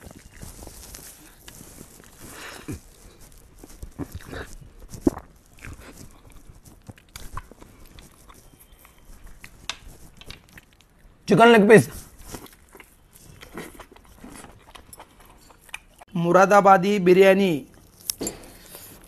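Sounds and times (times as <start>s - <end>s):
man chewing: 0.0s - 11.3s, 11.9s - 16.1s.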